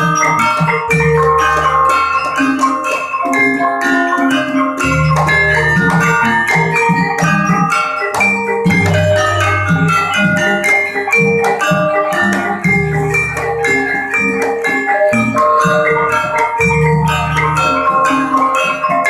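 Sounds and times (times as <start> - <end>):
gamelan dance music: 0.0 - 19.0.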